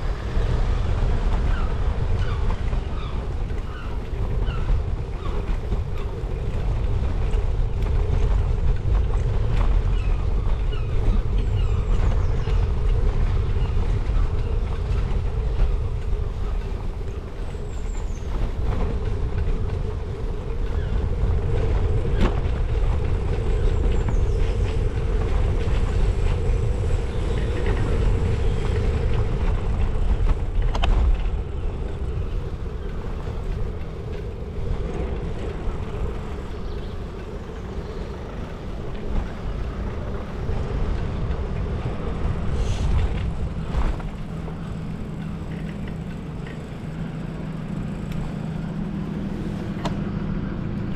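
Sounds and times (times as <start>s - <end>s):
bicycle road noise: 0.0s - 50.9s
wind buffeting microphone: 0.0s - 50.9s.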